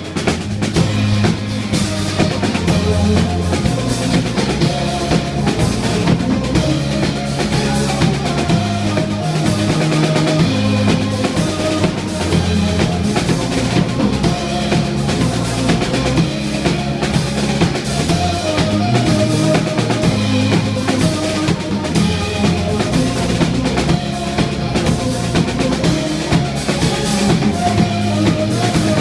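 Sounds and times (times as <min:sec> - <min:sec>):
drum kit: 0:00.0 - 0:29.0
live band playing instrumental: 0:00.0 - 0:29.0.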